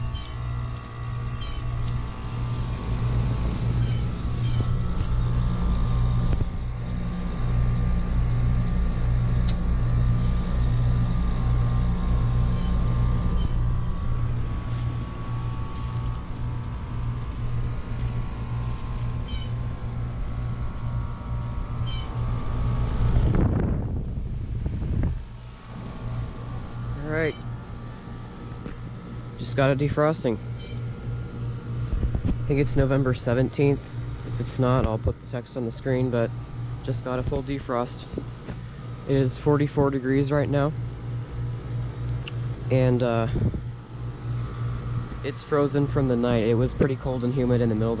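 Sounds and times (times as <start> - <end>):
heat pump compressor hum: 0.0 - 48.0.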